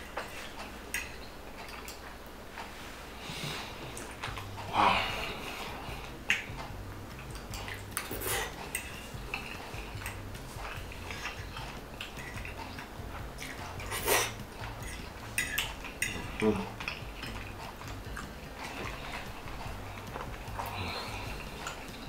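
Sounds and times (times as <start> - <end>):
slurping and chewing: 0.0 - 22.0.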